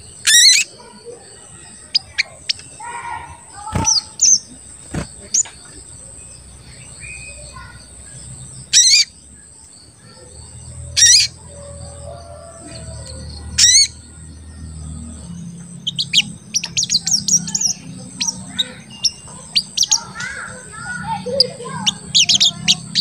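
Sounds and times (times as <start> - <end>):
sunbird calling: 0.0 - 23.0.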